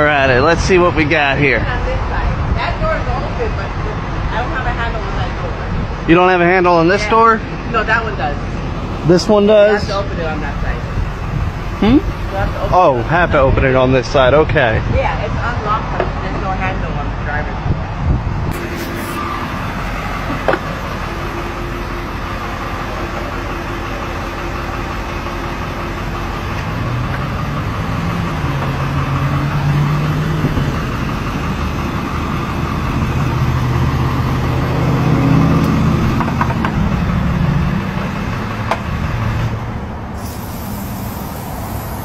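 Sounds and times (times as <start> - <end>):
passing vehicle engines: 0.0 - 42.0
road traffic: 0.0 - 42.0.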